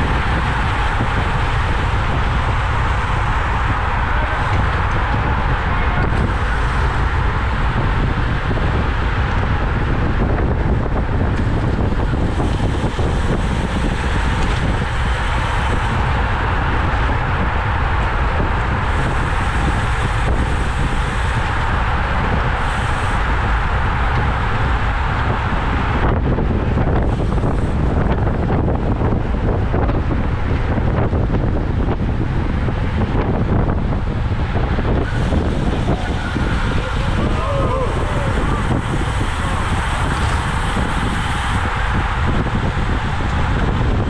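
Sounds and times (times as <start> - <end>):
road noise: 0.0 - 44.0
wind rushing over microphone: 0.0 - 44.0.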